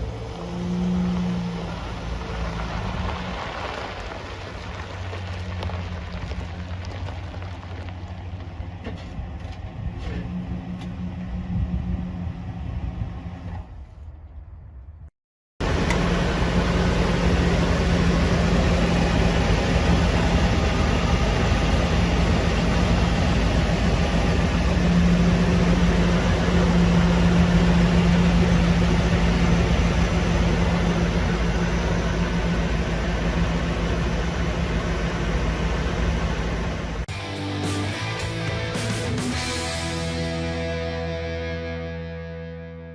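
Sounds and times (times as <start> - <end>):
motorhome engine running: 0.0 - 14.4, 15.6 - 42.3.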